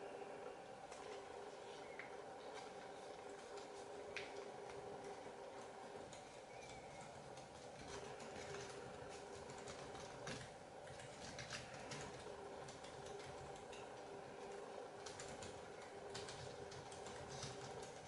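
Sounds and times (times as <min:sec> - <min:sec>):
steady low hum: 0:00.0 - 0:18.0
paper crinkling while folded: 0:00.9 - 0:18.0.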